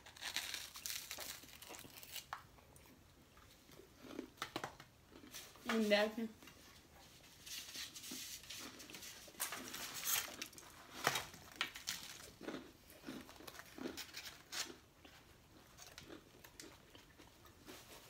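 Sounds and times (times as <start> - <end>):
chewing and crunching food: 0.0 - 7.1, 7.9 - 18.0.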